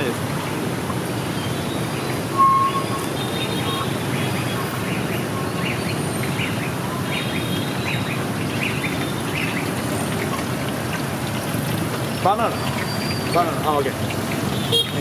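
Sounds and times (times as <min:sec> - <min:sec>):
motorbike traffic: 0:00.0 - 0:15.0.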